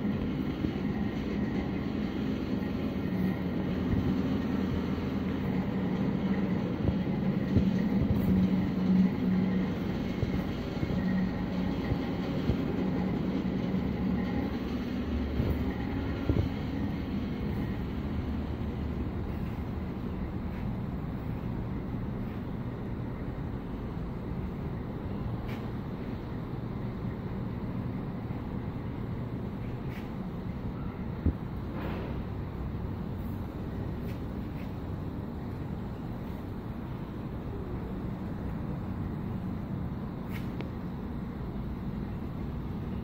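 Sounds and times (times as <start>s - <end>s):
low hum and rumble: 0.0s - 43.0s.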